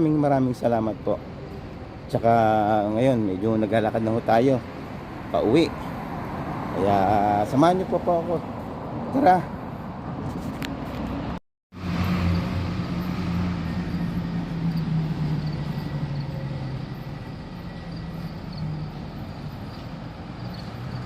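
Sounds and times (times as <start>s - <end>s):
vehicle engine humming: 1.0s - 21.0s.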